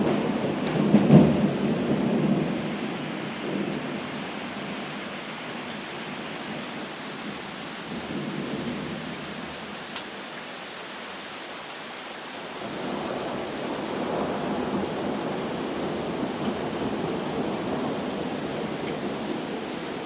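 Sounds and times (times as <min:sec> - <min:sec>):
thunder rumbling: 0:00.0 - 0:09.7, 0:12.6 - 0:20.0
rain falling: 0:00.0 - 0:20.0.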